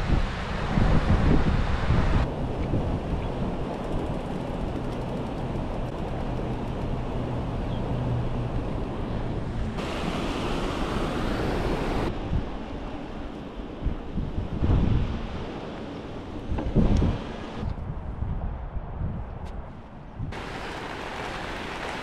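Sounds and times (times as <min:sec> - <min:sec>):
wind and rain in a storm: 0:00.0 - 0:22.0.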